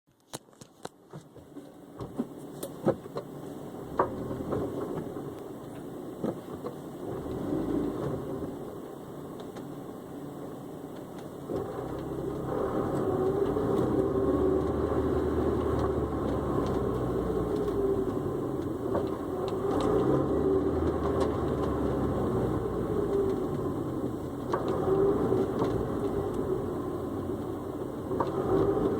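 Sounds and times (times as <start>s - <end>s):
car engine running: 1.0s - 28.9s.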